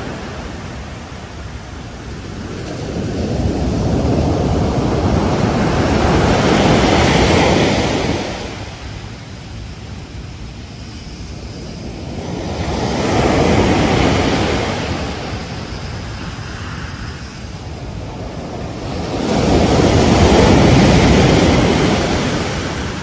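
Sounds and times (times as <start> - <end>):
ocean waves breaking on beach: 0.0 - 23.0.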